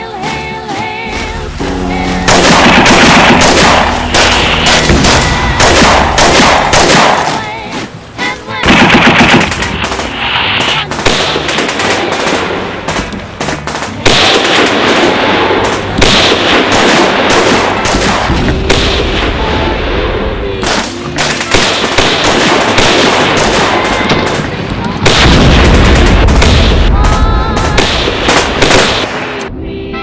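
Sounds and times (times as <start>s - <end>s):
rifle shots: 2.2s - 7.4s, 8.6s - 19.4s, 20.6s - 29.5s
rapid automatic gunfire: 2.3s - 7.4s, 8.6s - 19.2s, 20.7s - 29.4s.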